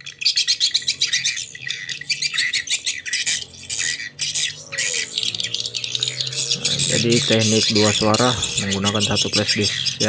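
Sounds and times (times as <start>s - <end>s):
high twittering bird calls: 0.0s - 10.0s.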